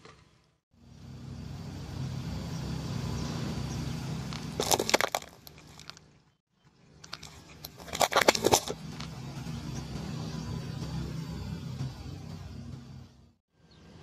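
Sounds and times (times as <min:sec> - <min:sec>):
car engine hum: 0:00.8 - 0:06.1, 0:06.9 - 0:14.0.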